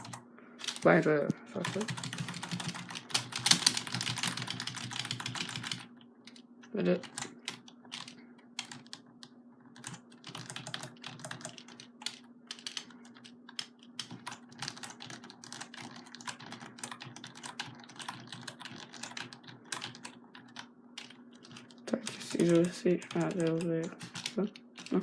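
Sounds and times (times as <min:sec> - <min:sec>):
keyboard keys clicking: 0:00.0 - 0:00.9, 0:01.6 - 0:06.4, 0:07.0 - 0:25.0
steady low hum: 0:00.0 - 0:25.0.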